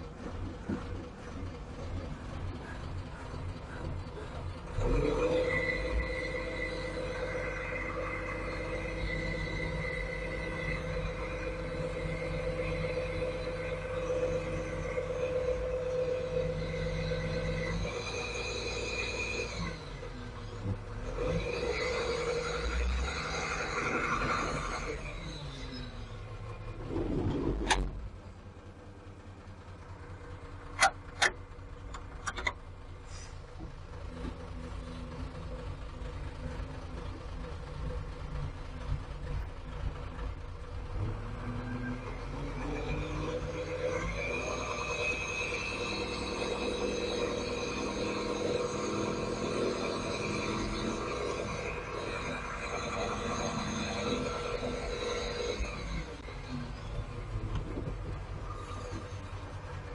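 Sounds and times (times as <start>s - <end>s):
diesel engine humming: 0.0s - 59.9s.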